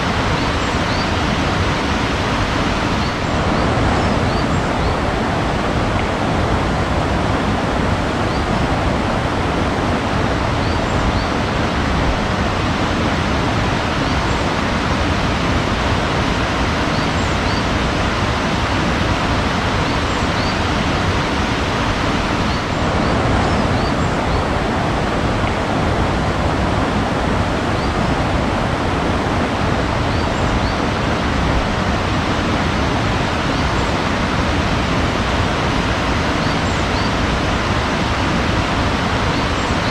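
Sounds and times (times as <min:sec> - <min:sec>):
small birds chirping faintly: 0:00.0 - 0:08.9, 0:10.3 - 0:25.8, 0:29.8 - 0:39.9
rushing water: 0:00.0 - 0:39.9.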